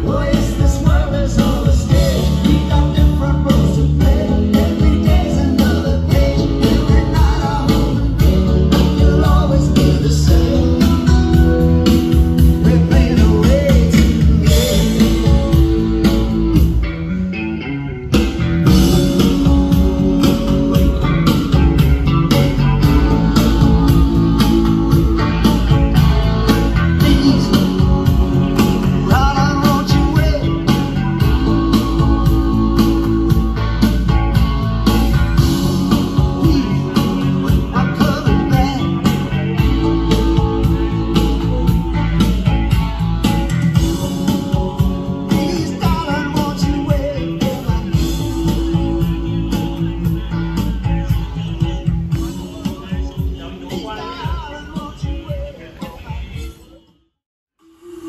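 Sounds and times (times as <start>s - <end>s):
guitar-driven rock music: 0.0s - 56.0s.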